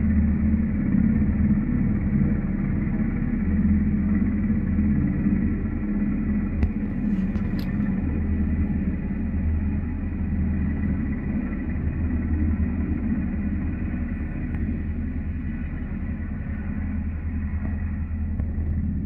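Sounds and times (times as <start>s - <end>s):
helicopter engine whine: 0.0s - 19.0s
helicopter rotor beating: 0.0s - 19.0s.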